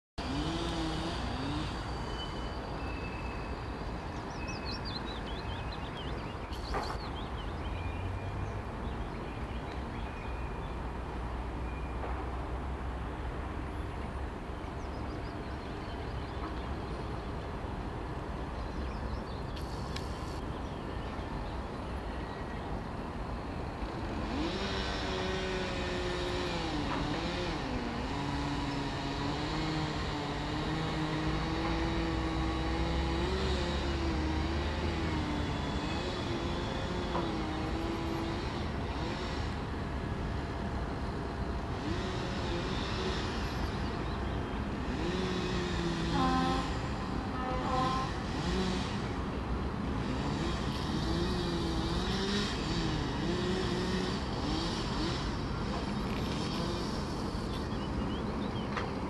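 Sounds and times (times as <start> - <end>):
vehicle engine: 0.2 - 9.8, 10.9 - 20.6, 22.7 - 59.0
distant road traffic hum: 0.2 - 59.0.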